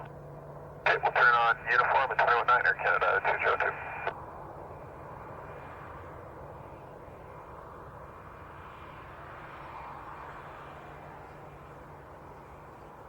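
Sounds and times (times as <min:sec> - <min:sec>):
jet engines running at low power: 0:00.0 - 0:13.0.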